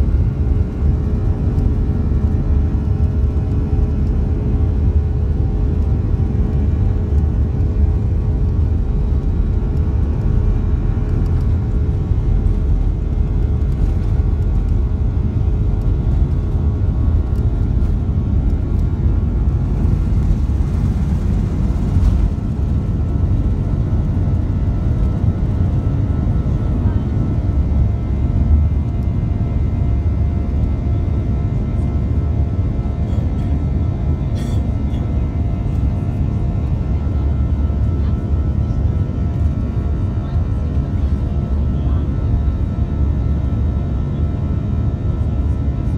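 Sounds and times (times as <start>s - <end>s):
jet engines rumbling in cabin: 0.0s - 45.9s.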